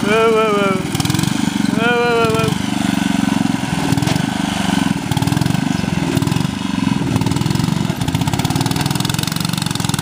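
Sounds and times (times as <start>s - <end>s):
lawn tractor engine running hard: 0.0s - 10.0s.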